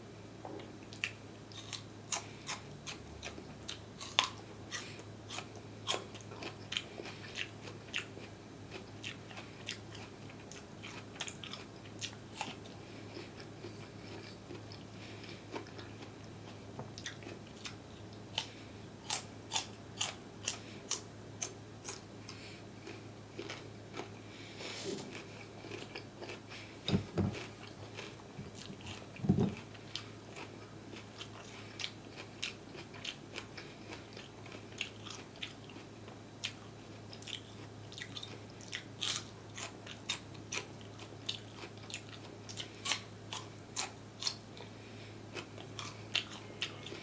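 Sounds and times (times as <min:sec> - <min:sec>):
faint low hum: 0:00.0 - 0:47.0
chewing crunchy food: 0:00.6 - 0:24.5, 0:25.1 - 0:47.0.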